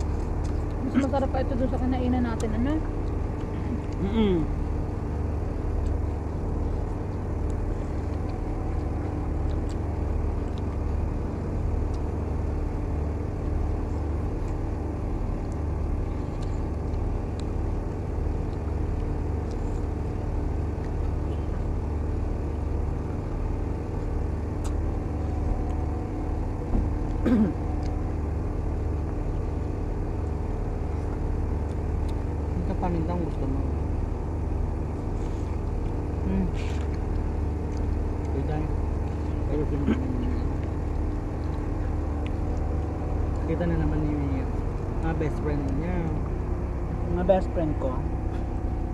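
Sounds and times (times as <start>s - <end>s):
engine running drone: 0.0s - 48.9s.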